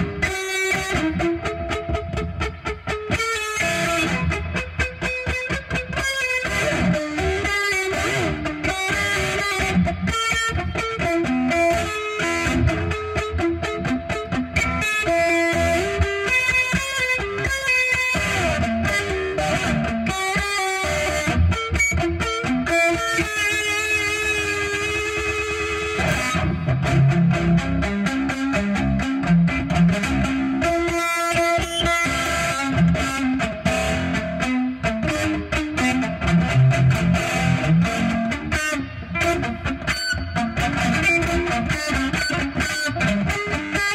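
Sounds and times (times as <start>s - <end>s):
electric guitar melody: 0.0s - 43.9s.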